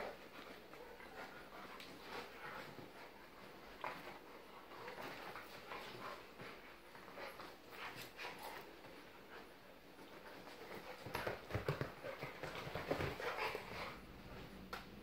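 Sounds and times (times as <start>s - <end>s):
paws scuffling on cushions: 0.0s - 14.7s
dogs play noises: 0.0s - 15.0s.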